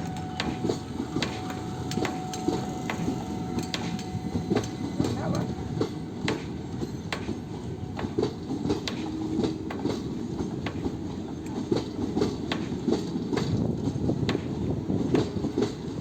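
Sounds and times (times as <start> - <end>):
train rumbling on rails: 0.0 - 16.0
train wheels clicking and knocking: 0.0 - 16.0.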